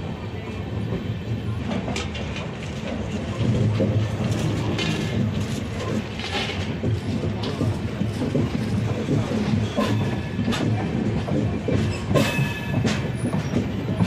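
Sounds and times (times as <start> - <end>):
train wheels rumbling on track: 0.0 - 14.0
wheels clacking over rail joints: 0.8 - 14.0.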